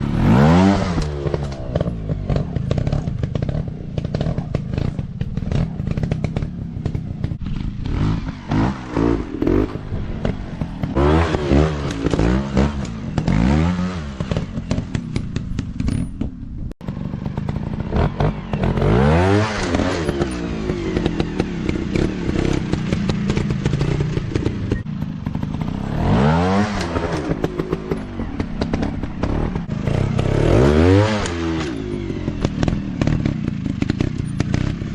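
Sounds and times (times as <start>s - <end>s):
dirt bike engines revving: 0.0s - 16.0s, 16.6s - 34.9s.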